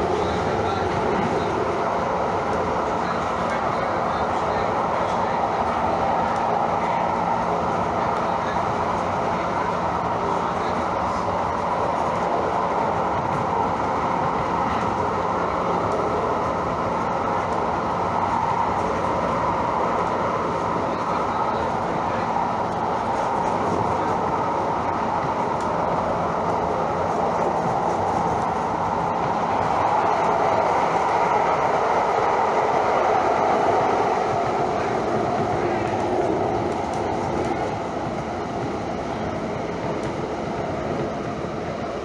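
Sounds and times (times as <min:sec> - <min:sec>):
wheel-on-rail rumble: 0:00.0 - 0:42.0.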